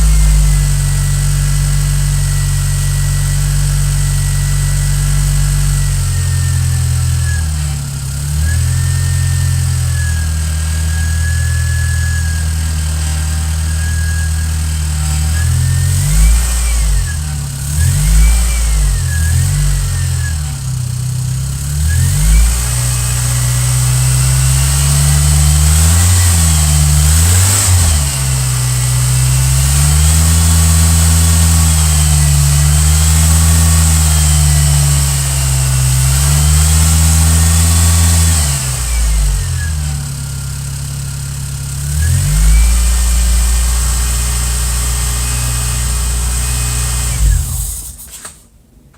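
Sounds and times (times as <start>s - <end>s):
car engine idling and revving: 0.0s - 48.4s.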